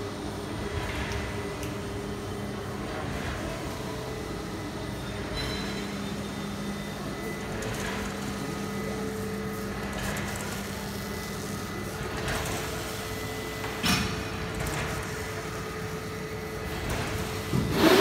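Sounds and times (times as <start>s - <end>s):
industrial machinery humming: 0.0s - 18.0s.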